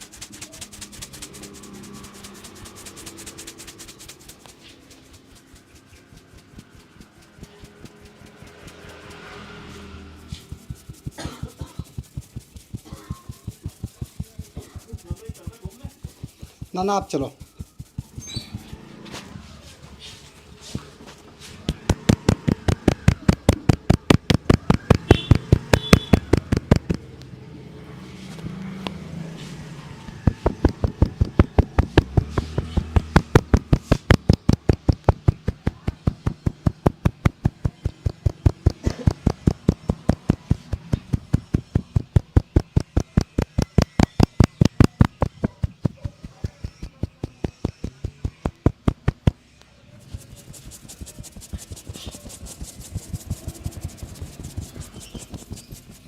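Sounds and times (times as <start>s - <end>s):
hands slapping a head: 0.0s - 19.7s, 20.8s - 27.4s, 30.1s - 49.4s, 50.0s - 56.0s.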